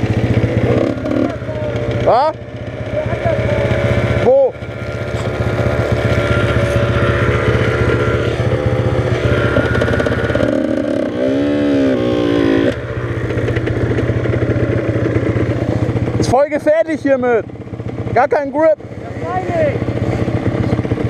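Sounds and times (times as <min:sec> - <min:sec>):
dirt bike engine idling and revving: 0:00.0 - 0:21.0.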